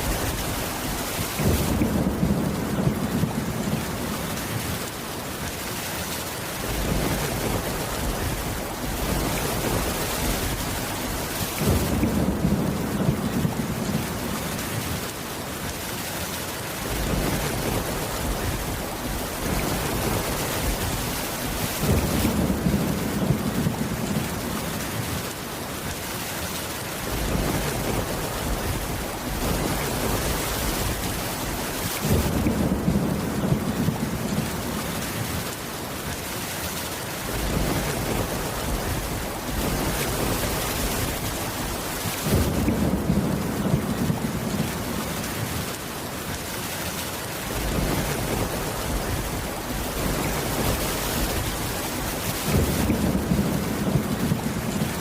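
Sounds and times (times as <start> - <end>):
low rumbles of thunder: 0.0 - 5.0, 6.6 - 15.2, 16.8 - 25.3, 27.0 - 35.5, 37.2 - 45.8, 47.4 - 55.0
steady rain: 0.0 - 55.0.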